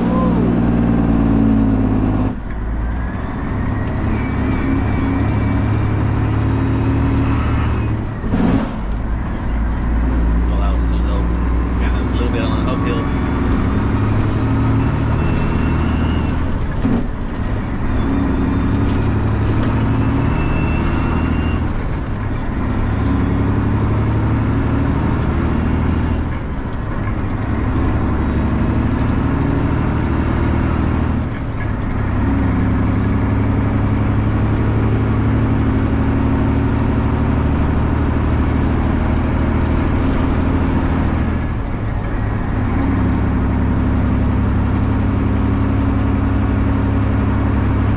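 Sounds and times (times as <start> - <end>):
diesel truck engine: 0.0 - 47.9.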